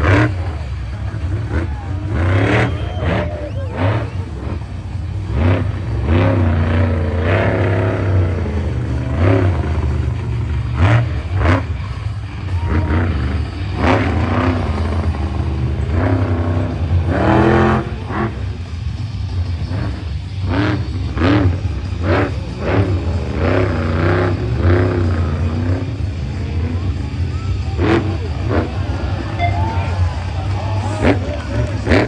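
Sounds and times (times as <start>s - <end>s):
raised voices: 0.0s - 32.0s
truck engine low rumble: 0.0s - 32.0s.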